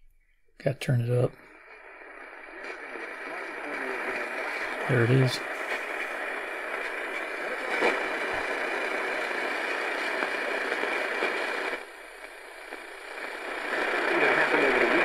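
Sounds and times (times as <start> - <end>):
radio static hiss: 0.6 - 15.0.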